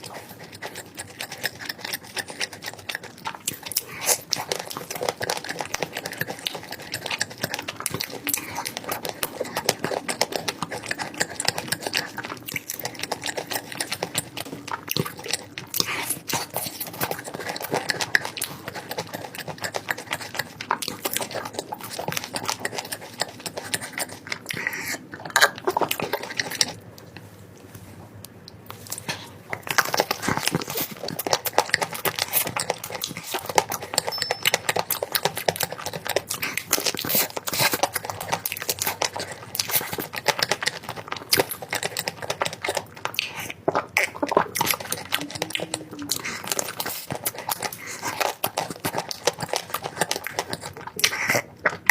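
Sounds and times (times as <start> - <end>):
chewing and crunching: 0.0 - 51.9.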